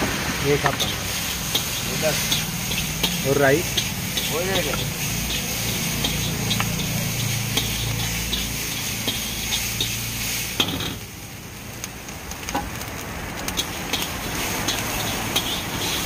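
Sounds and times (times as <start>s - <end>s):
food sizzling: 0.0s - 16.0s
metal spatula scraping wok: 0.5s - 11.1s, 13.5s - 16.0s.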